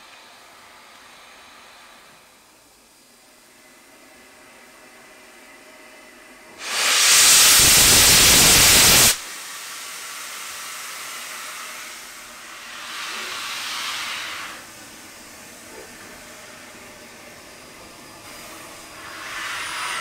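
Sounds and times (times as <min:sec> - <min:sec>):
steam hissing from locomotive: 0:00.0 - 0:20.0.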